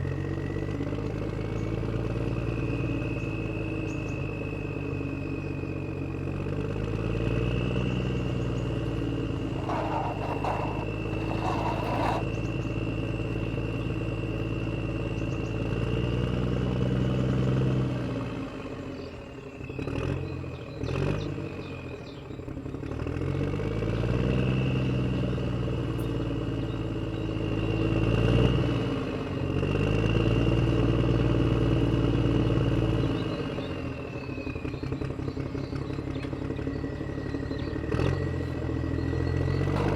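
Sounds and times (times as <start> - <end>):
vehicle engine revving: 0.0 - 19.1, 19.7 - 39.9.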